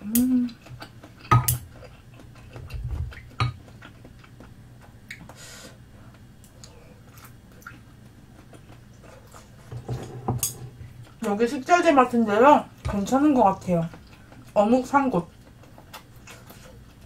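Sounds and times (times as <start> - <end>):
soft eating noises: 0.0 - 17.0.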